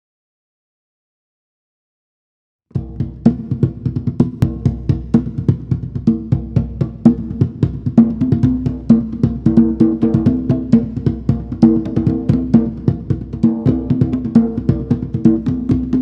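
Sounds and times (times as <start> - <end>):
fast drum and percussion beat: 2.8 - 16.0.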